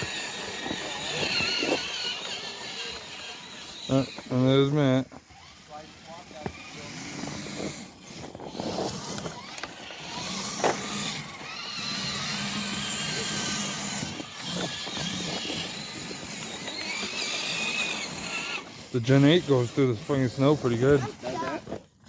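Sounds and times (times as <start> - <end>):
electric motors and gears whining: 0.0 - 22.0.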